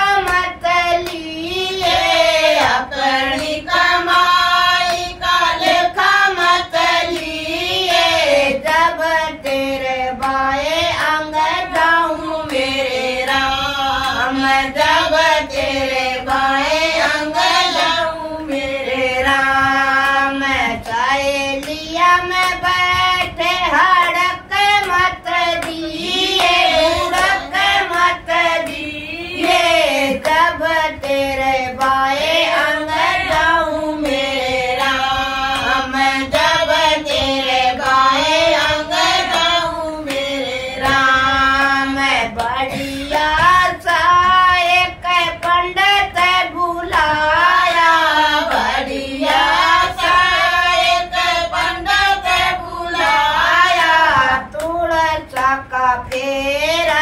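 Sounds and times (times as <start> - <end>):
hand claps: 0.0 - 57.0
women singing together: 0.0 - 57.0.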